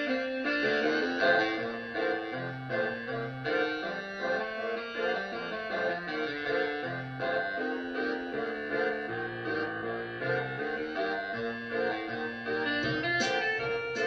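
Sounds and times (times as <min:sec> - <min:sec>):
concert band music: 0:00.0 - 0:14.0.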